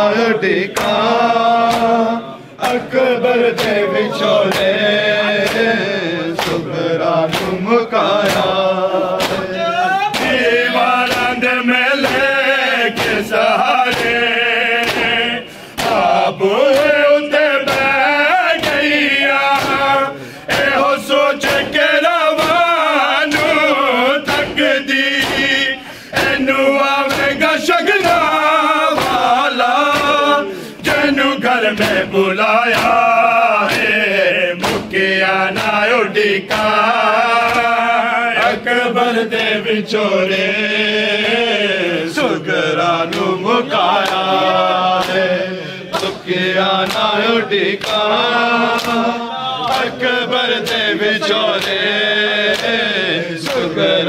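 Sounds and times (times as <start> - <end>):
men chanting together: 0.0 - 54.0.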